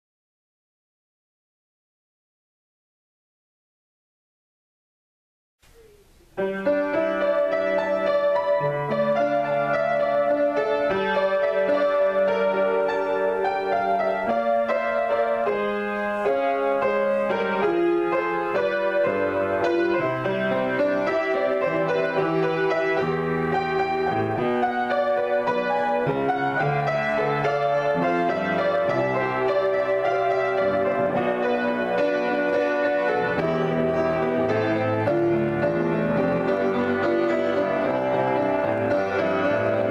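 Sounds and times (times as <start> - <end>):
solo piano improvisation: 5.6 - 39.9.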